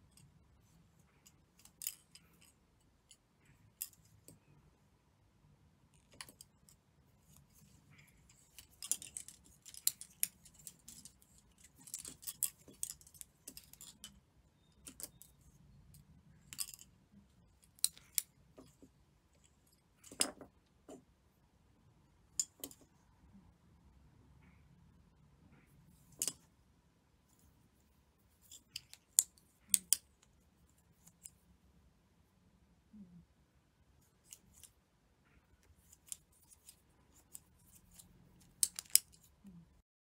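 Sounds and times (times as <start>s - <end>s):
thread rustling: 0.0s - 21.2s, 25.5s - 31.8s, 33.9s - 39.8s.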